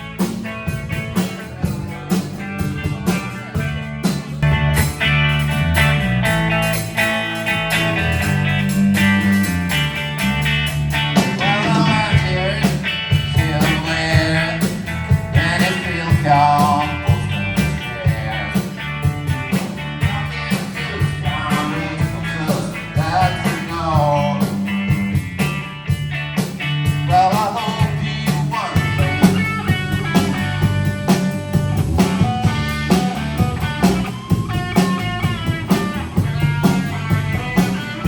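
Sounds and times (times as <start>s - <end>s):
blues band playing: 0.0s - 38.0s
lead guitar bending notes: 0.0s - 38.0s
steady drum beat: 0.0s - 38.0s.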